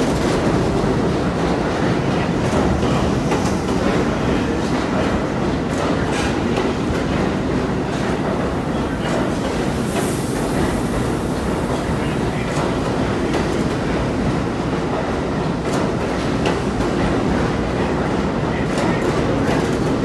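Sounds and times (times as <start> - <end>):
subway wheels rumbling on rail: 0.0 - 20.0.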